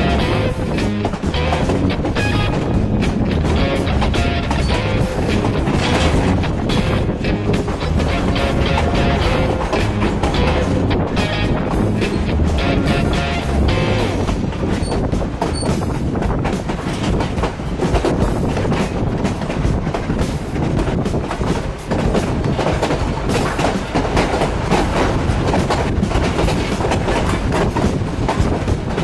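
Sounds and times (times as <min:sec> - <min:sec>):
train wheels clacking over rail joints: 0:00.0 - 0:29.0.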